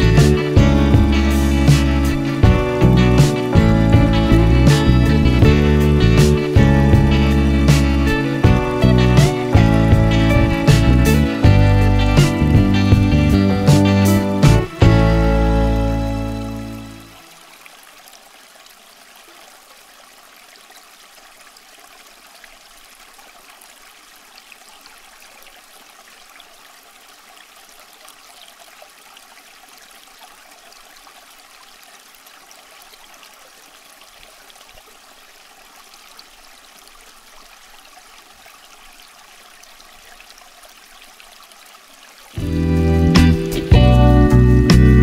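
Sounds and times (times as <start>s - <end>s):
water trickling: 0.0s - 45.0s.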